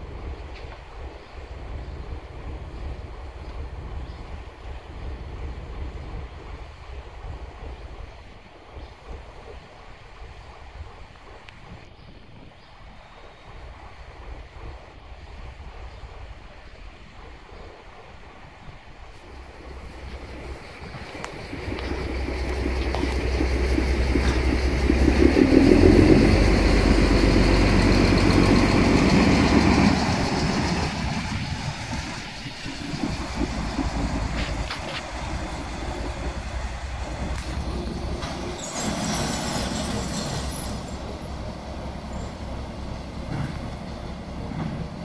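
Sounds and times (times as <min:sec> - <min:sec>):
railcar engine humming: 0:00.0 - 0:11.8, 0:12.8 - 0:45.0.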